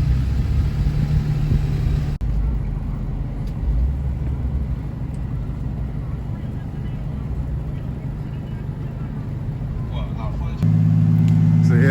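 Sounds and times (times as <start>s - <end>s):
vehicle engine rumble: 0.0s - 11.9s.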